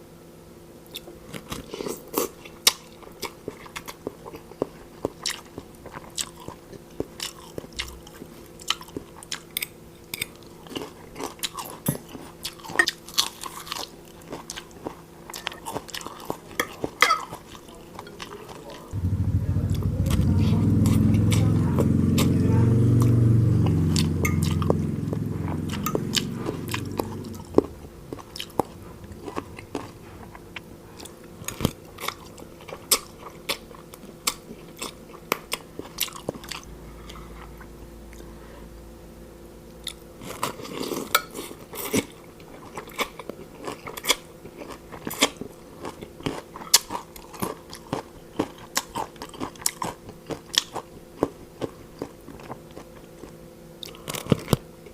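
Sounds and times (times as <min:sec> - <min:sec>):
chewing crunchy food: 0:00.8 - 0:19.0, 0:25.7 - 0:38.4, 0:39.7 - 0:54.9.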